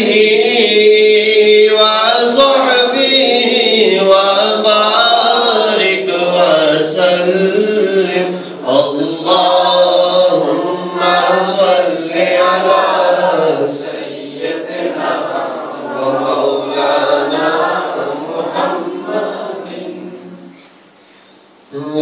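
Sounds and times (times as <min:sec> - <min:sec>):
men chanting together: 0:00.0 - 0:20.4.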